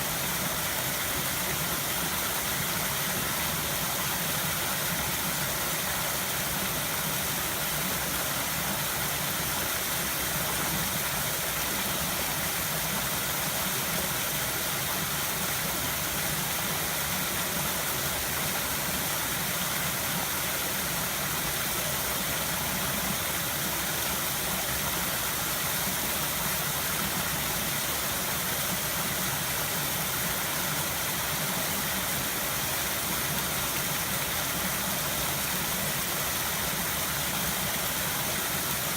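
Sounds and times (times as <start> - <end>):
river water flowing over stones: 0.0 - 38.9.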